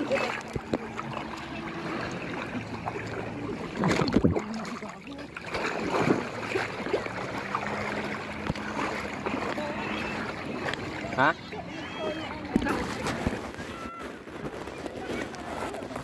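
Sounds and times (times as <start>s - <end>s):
boat engine low hum: 0.0s - 16.0s
seawater sloshing around legs: 0.0s - 16.0s.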